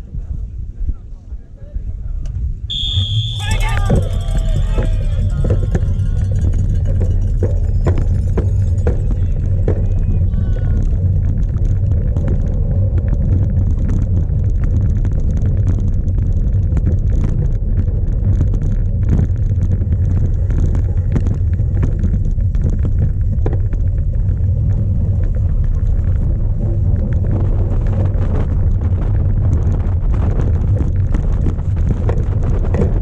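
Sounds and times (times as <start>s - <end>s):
wind buffeting microphone: 0.0s - 33.0s
bike knocks and rattles: 3.4s - 33.0s.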